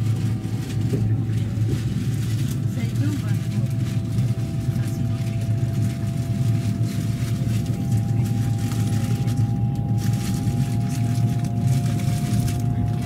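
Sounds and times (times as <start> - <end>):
constant whine: 0.0 - 13.0
train rumbling on track: 0.0 - 13.0.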